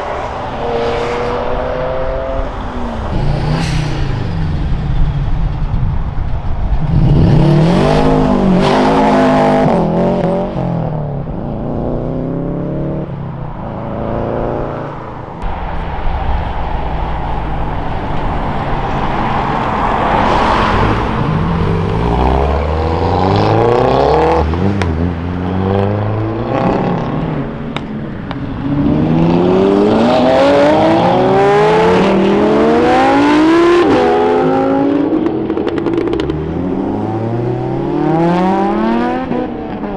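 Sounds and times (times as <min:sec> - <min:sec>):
cars accelerating hard: 0:00.0 - 0:39.9.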